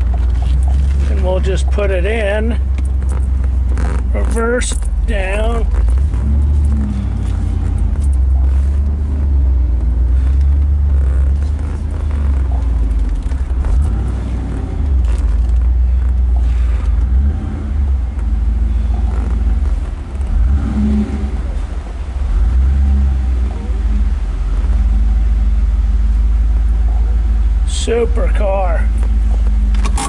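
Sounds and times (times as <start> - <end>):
car engine deep rumble: 0.0 - 30.0.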